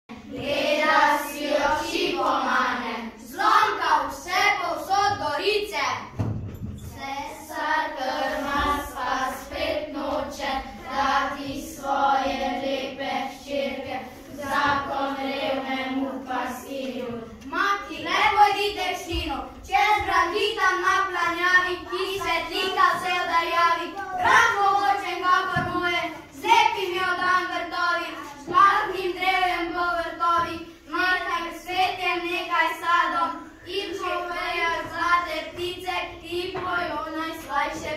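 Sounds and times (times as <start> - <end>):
children singing: 0.1 - 6.1, 7.0 - 37.9.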